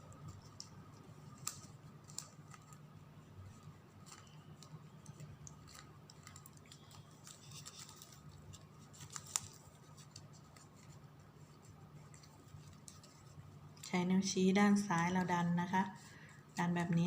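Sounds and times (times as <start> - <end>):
low steady hum: 0.0 - 17.0
ribbon rustling: 0.0 - 17.0.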